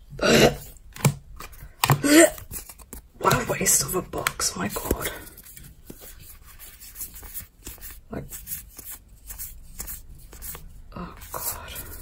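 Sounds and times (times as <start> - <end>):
cards scraping while flipped: 1.0 - 10.7.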